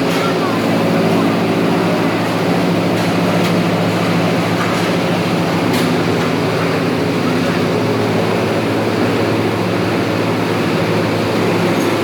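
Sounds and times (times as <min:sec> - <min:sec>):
machine drone: 0:00.0 - 0:12.0.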